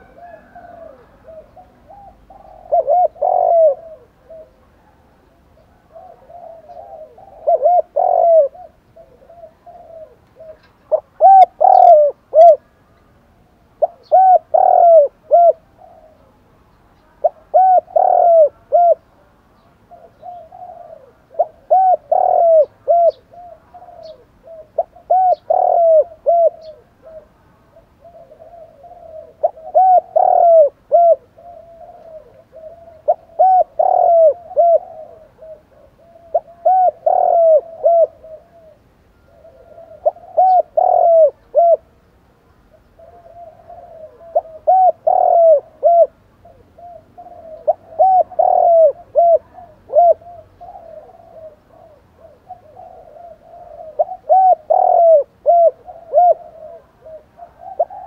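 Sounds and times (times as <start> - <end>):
dove cooing: 0.0 - 12.9, 13.7 - 42.0, 42.6 - 58.0.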